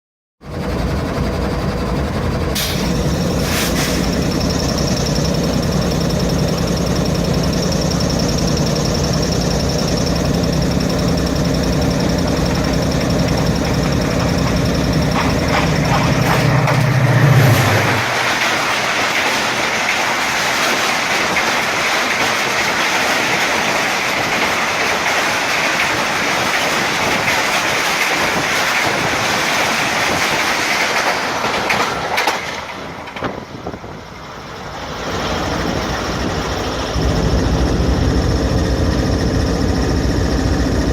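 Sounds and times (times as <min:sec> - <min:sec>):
locomotive engine drone: 0:00.4 - 0:40.9
train wheels rolling on rails: 0:00.4 - 0:40.9.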